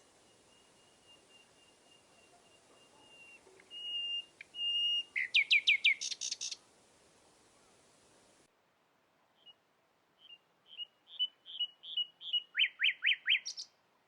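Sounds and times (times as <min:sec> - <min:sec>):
songbird singing: 0:00.0 - 0:08.5, 0:09.4 - 0:09.6, 0:10.2 - 0:13.8.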